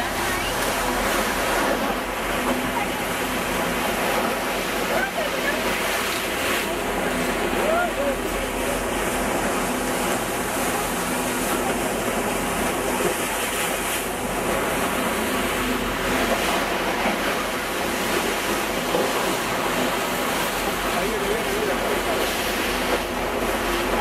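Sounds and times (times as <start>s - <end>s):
faint engine hum: 0.0s - 24.0s
sea water rushing past hull: 0.0s - 24.0s.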